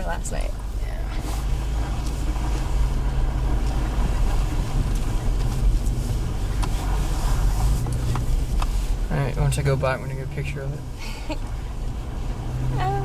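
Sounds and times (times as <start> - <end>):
vehicle rumbling on snowy road: 0.0 - 13.0.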